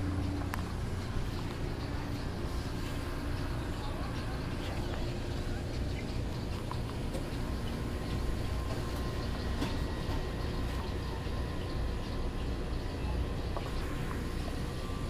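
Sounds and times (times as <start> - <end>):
faint steady hum: 0.0 - 15.0
frozen drink machine rumbling: 0.0 - 15.0.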